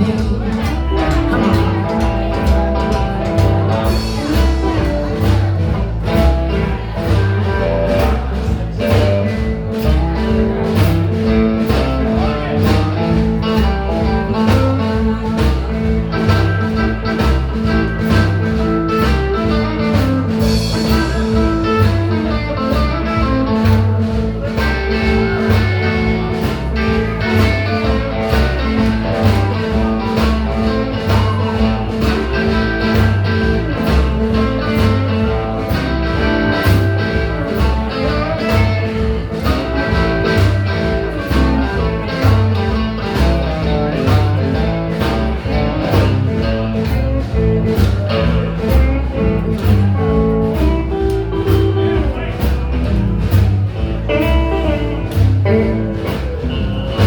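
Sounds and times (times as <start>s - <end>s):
blues band playing: 0.0s - 57.0s
guitar: 0.0s - 57.0s.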